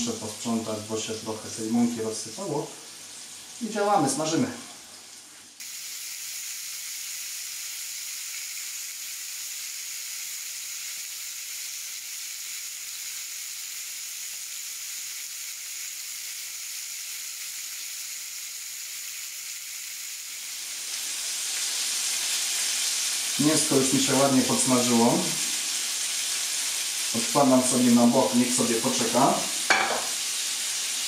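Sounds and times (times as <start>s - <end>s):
meat sizzling in a frying pan: 0.0s - 31.0s.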